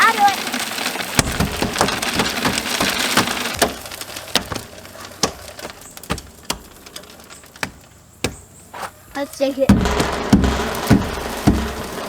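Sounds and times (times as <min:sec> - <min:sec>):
feed scattering on ground: 0:00.0 - 0:12.0.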